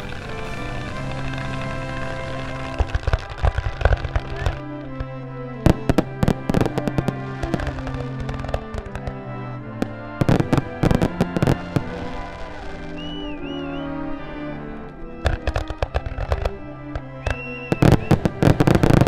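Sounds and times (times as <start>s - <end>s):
fireworks bangs and crackles: 0.0s - 9.2s, 9.8s - 13.6s, 15.2s - 19.0s
background music with held notes: 0.0s - 19.0s.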